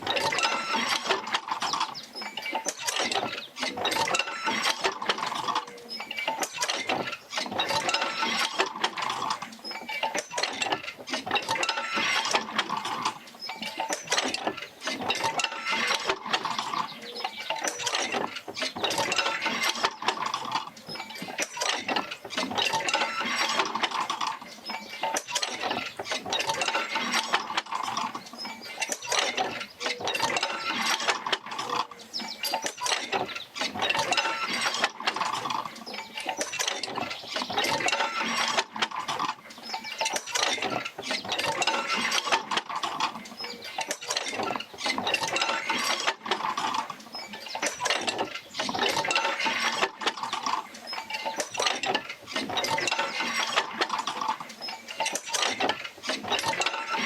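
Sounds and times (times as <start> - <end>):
metal clinks and rattles: 0.0 - 57.0.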